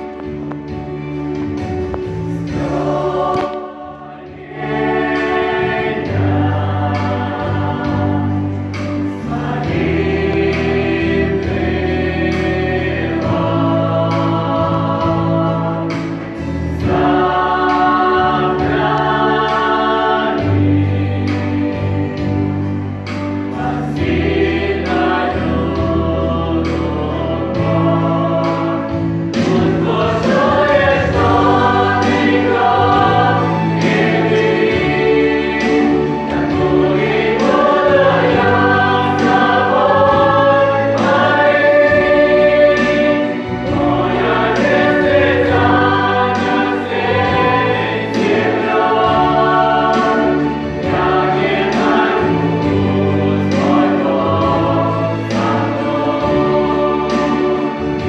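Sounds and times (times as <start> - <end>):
choir singing a hymn: 0.0 - 58.0
low accompanying notes: 0.0 - 58.0.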